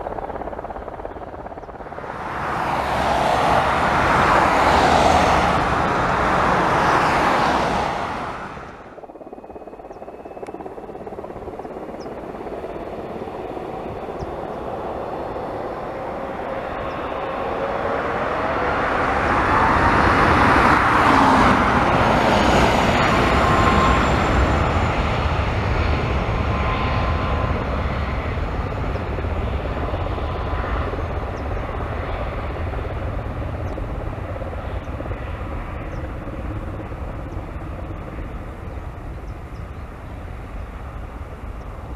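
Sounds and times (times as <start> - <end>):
jet engines rumbling and whining: 0.0 - 41.9.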